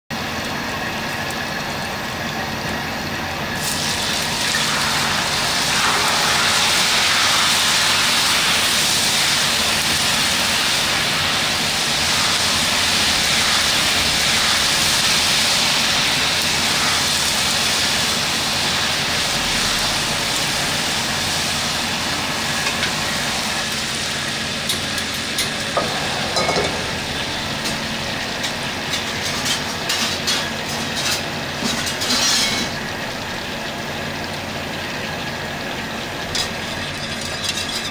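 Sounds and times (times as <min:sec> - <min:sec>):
food deep-frying sizzle: 0:00.1 - 0:37.9
gas burner roar: 0:00.1 - 0:37.9.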